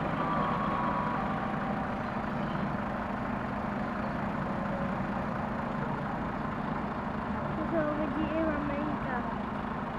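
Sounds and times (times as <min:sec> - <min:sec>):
heavy vehicle engines humming: 0:00.0 - 0:09.9.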